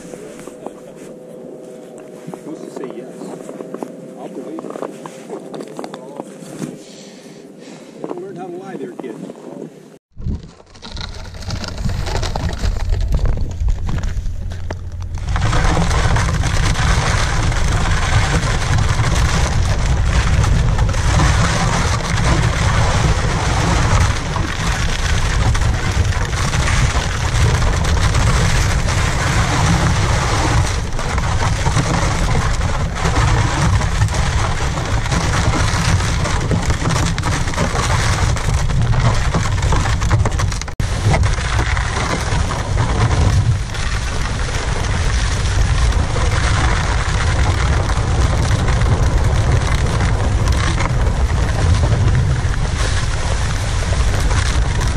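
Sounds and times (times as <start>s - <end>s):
sled scraping over snow: 0.0s - 7.2s, 8.2s - 54.9s.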